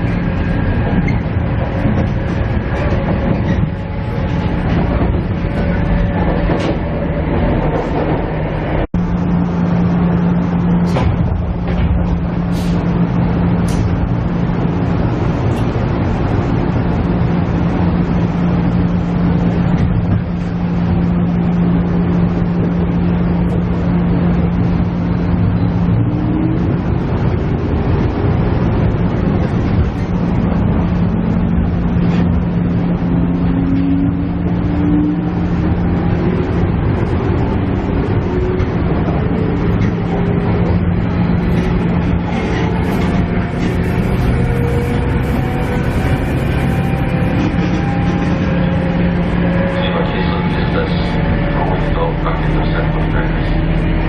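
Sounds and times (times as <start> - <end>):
diesel engine drone: 0.0 - 54.0
train wheels on rails: 0.0 - 54.0.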